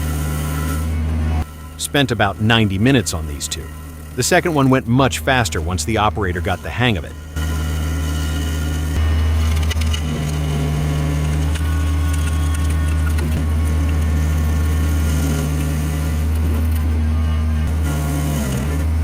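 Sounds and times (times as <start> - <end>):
heavy machine engine under load: 0.0 - 19.0.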